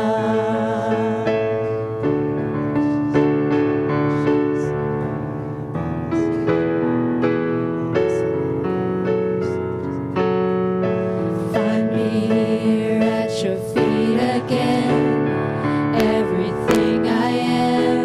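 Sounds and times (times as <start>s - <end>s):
slow piano ballad: 0.0s - 18.0s.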